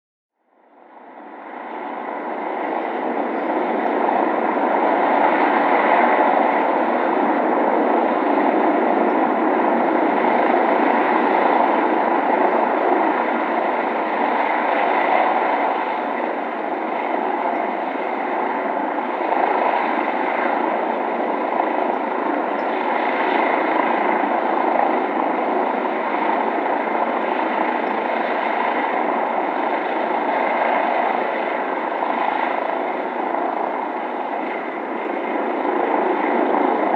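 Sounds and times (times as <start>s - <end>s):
helicopter rotor and engine: 0.4s - 36.9s.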